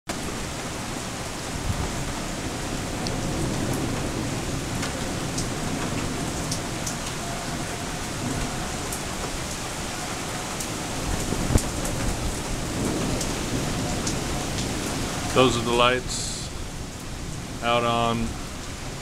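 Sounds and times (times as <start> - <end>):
heavy rain falling: 0.1 - 19.0
sharp rain ticks: 0.1 - 19.0.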